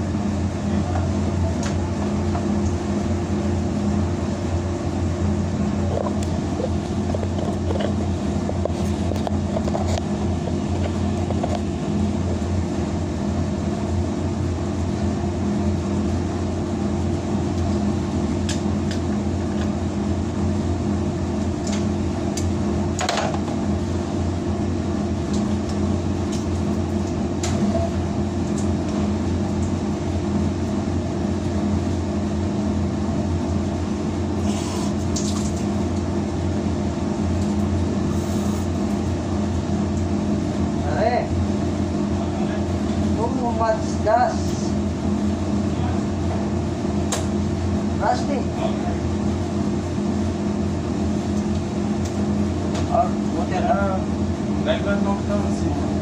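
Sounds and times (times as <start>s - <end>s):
laundry machinery humming: 0.0s - 56.0s.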